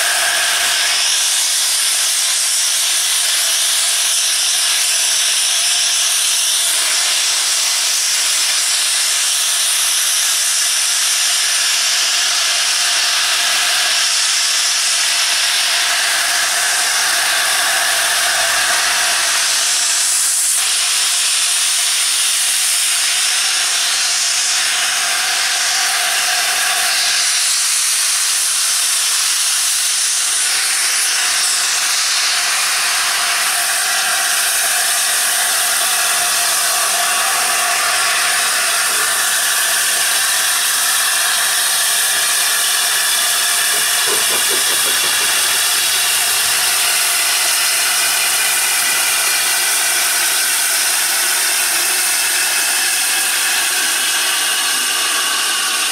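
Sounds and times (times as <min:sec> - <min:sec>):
steam locomotive venting steam: 0:00.0 - 0:55.9.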